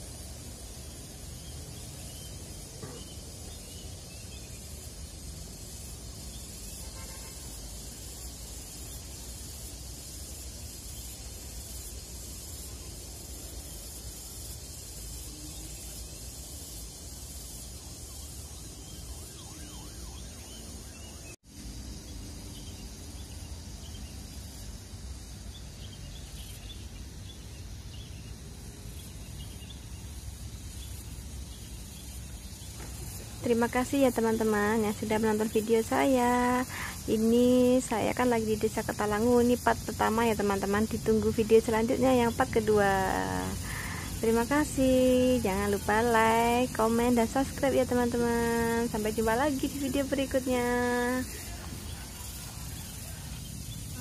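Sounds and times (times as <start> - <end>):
faint chirps: 0.0 - 54.0
high hiss: 0.0 - 54.0.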